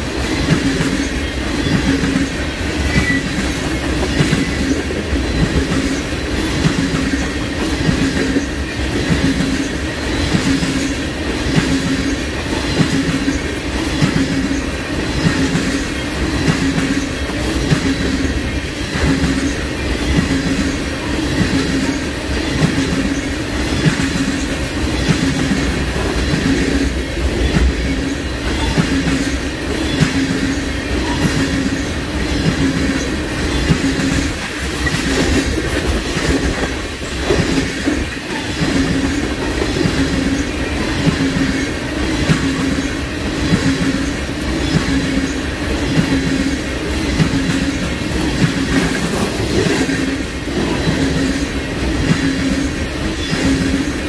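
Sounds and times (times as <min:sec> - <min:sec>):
freight train rumble: 0:00.0 - 0:54.0
train wheels clacking over rails: 0:00.0 - 0:54.0.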